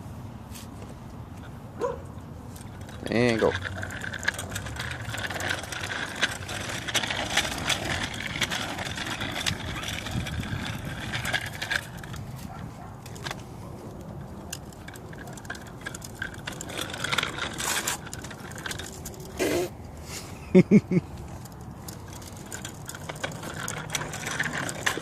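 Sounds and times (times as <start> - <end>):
bicycle tyres on pavement: 0.4 - 25.0
bike rattles and clicks: 0.5 - 25.0.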